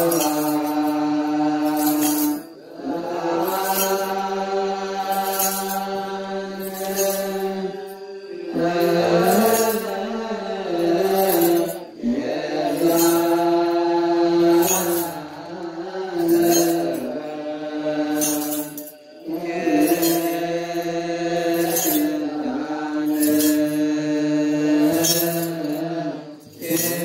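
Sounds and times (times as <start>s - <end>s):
faint high jingling beat: 0.0s - 27.0s
voices chanting: 0.0s - 27.0s.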